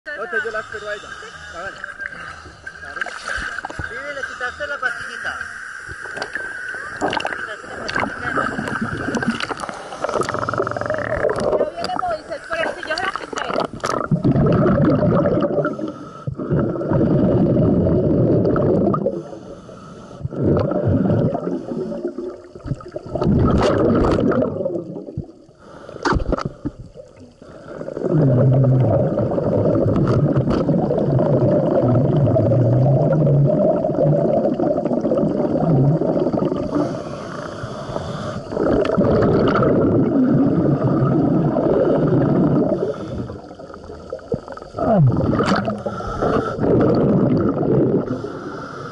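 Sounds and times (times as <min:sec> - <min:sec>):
regulator bubbles burbling underwater: 0:05.9 - 0:19.6, 0:20.2 - 0:48.6.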